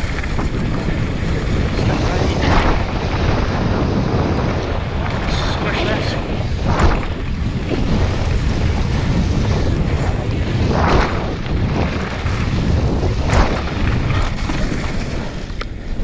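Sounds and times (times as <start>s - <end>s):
tyres rumbling over gravel: 0.0s - 16.0s
wind buffeting microphone: 0.0s - 16.0s.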